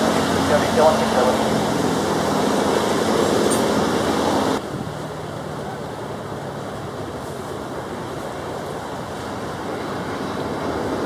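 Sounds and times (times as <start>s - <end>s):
jet engines at takeoff thrust: 0.0s - 11.0s
jet engines on approach: 0.0s - 11.0s.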